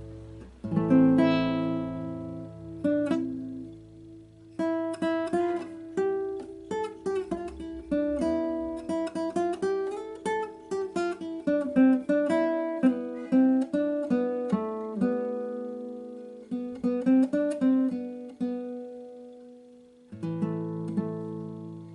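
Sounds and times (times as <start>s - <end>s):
acoustic guitar music: 0.0s - 21.9s.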